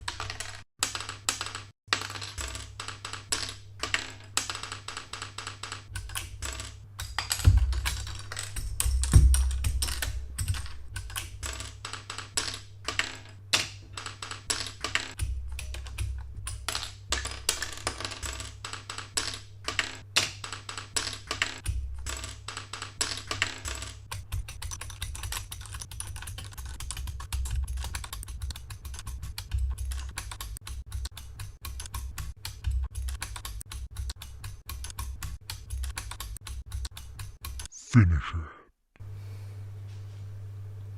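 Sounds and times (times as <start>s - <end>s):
mechanical keyboard clicking: 0.0s - 37.7s.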